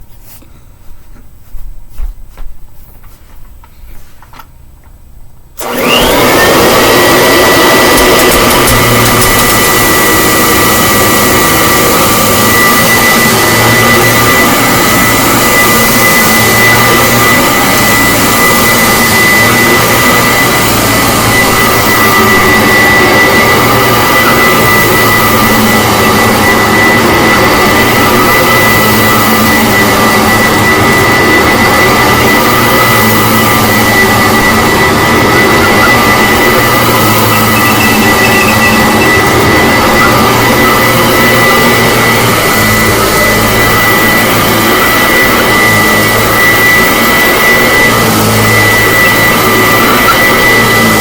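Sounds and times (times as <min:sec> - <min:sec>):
high-pitched motor whine: 0:05.6 - 0:51.0
upright vacuum cleaner running: 0:05.6 - 0:51.0.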